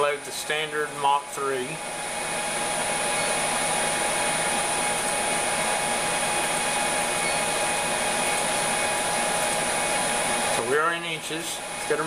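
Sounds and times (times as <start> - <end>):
fan rushing noise: 0.0 - 12.0.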